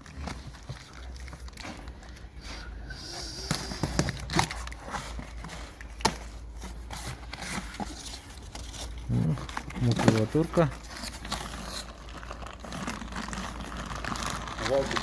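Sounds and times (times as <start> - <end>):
paper and cardboard crinkling: 0.0 - 15.0.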